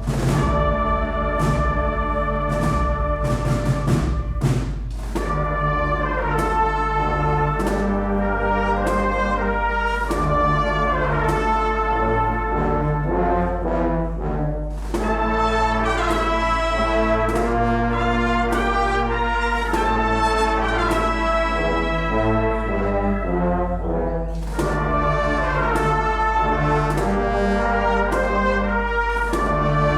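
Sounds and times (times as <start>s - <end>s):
percussion strokes: 0.0s - 13.4s, 14.1s - 29.9s
brass band processional march: 0.0s - 29.9s.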